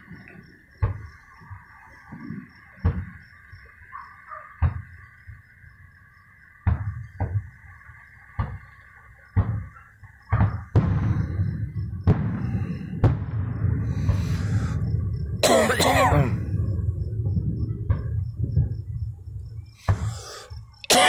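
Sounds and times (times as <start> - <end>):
fireworks bangs: 0.0 - 3.8, 4.5 - 5.4, 6.6 - 20.8
continuous rumble: 0.0 - 21.0.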